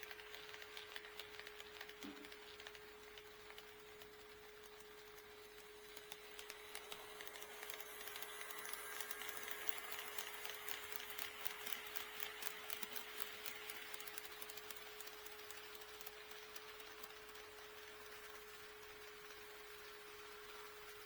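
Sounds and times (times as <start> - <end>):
model train wheels clicking: 0.0 - 21.0.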